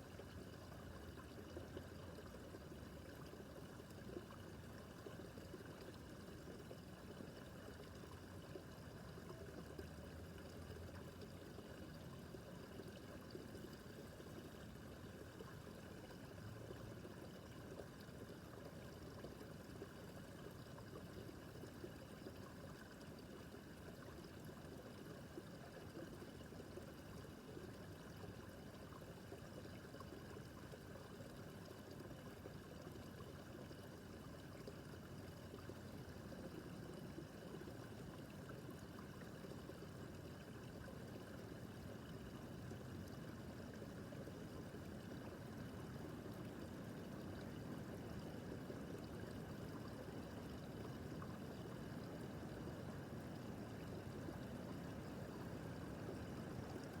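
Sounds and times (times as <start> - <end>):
water trickling over stones: 0.0 - 57.0.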